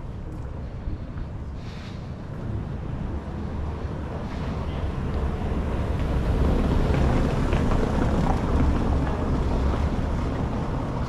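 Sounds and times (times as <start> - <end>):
car driving on cobblestones: 0.0 - 11.0.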